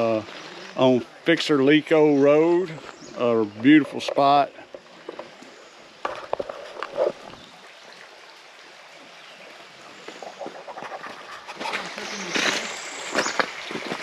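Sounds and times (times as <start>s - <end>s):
creek water running: 0.0s - 14.0s
water splashing: 1.9s - 14.0s.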